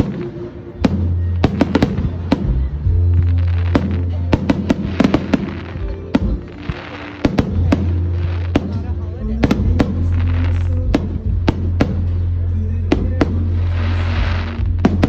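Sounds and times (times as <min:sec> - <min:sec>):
fireworks bangs and crackling: 0:00.0 - 0:15.0
music with low bass: 0:00.0 - 0:15.0.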